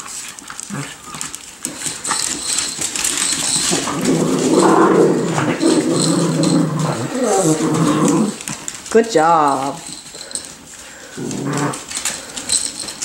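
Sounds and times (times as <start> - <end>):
dogs scuffling: 0.0 - 13.0
dog play growl: 0.5 - 8.8, 9.8 - 13.0.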